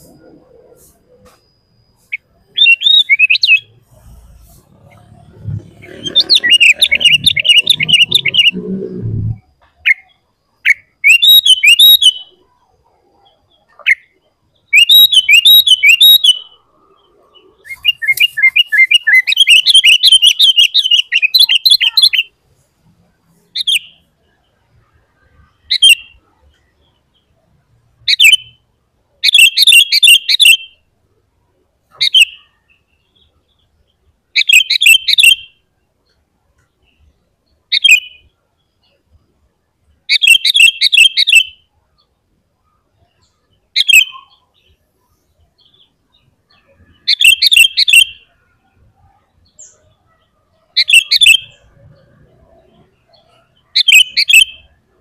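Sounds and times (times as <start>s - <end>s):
bird chattering song: 0.0s - 22.4s, 23.3s - 27.4s, 28.0s - 28.6s, 29.2s - 30.8s, 31.9s - 36.2s, 36.8s - 39.1s, 40.0s - 42.1s, 42.9s - 44.8s, 45.6s - 55.0s
bird calls: 0.0s - 27.4s, 29.2s - 30.8s, 31.8s - 39.2s, 40.1s - 55.0s.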